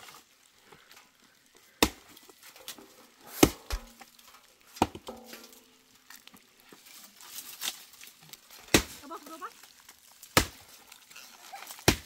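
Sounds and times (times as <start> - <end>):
dry branches cracking: 0.0 - 12.0.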